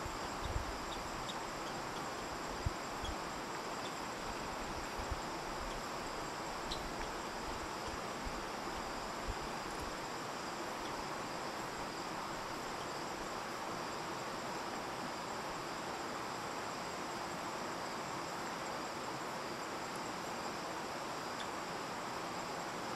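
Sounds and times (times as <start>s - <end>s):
crickets trilling: 0.0s - 22.9s
even hiss: 0.0s - 22.9s.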